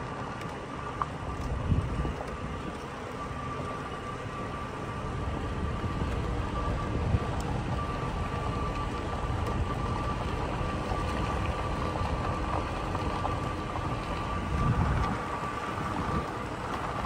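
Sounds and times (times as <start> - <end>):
tyres rumbling on dirt: 0.0 - 17.0.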